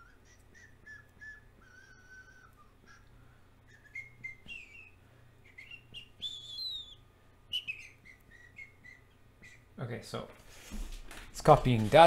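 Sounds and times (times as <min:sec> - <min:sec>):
bird chirping: 0:00.0 - 0:09.7.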